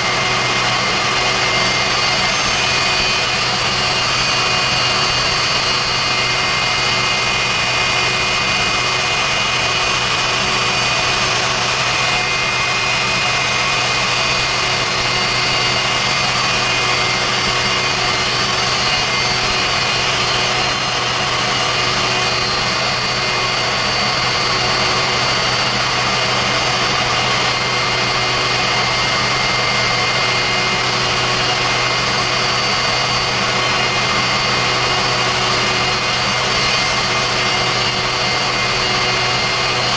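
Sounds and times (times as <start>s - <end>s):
high compressor whine: 0.0s - 39.9s
turbojet engine roar: 0.0s - 39.9s.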